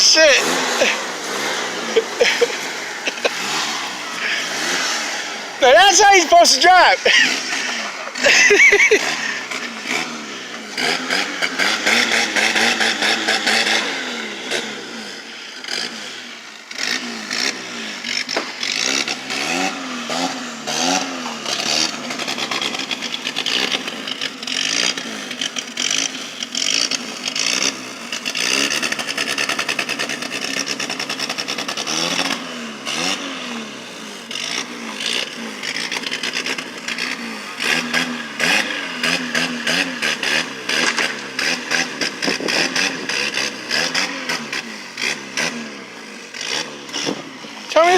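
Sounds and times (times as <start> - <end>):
vehicle engine revving: 0.0 - 47.9.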